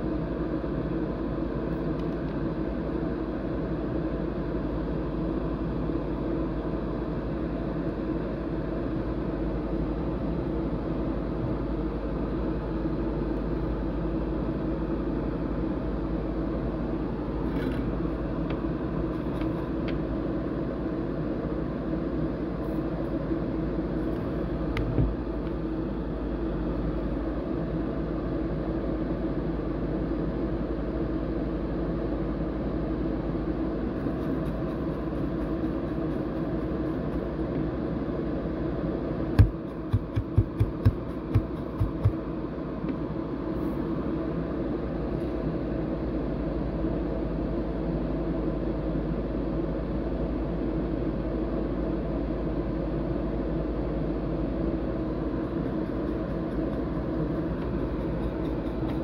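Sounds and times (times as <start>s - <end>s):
fan-like whir: 0.0s - 59.0s
low electrical hum: 0.0s - 59.0s.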